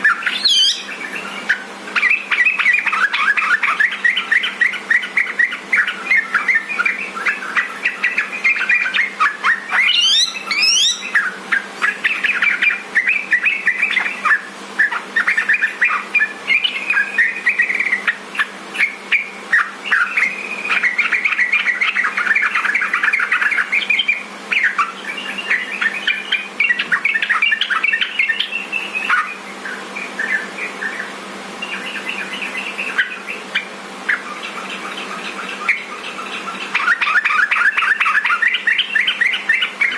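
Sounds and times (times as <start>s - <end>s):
bulbul chattering chirps: 0.0s - 39.9s.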